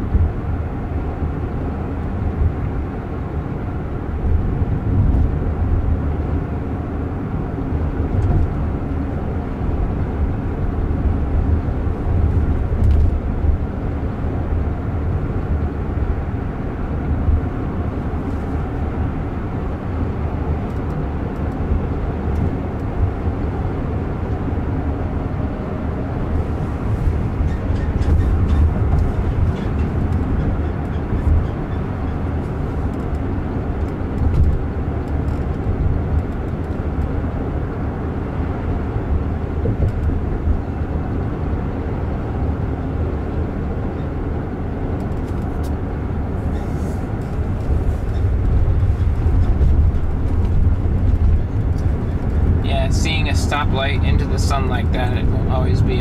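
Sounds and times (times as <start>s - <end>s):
tyre and road rumble in car: 0.0s - 56.0s.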